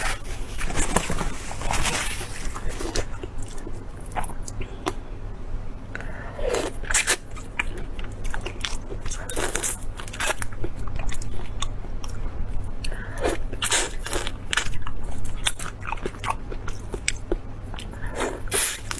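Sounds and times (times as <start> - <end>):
crunchy chewing of food: 0.0 - 5.0, 5.9 - 18.9.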